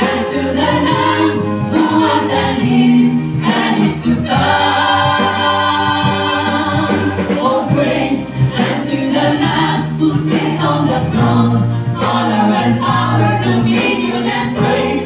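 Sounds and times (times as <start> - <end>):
choir singing a hymn: 0.0 - 15.0.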